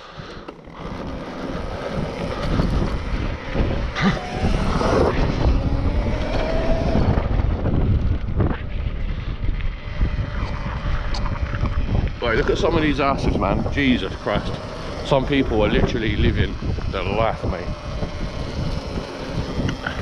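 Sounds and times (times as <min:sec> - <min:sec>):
electric motor whine: 0:00.0 - 0:20.0
wind buffeting microphone: 0:00.1 - 0:20.0.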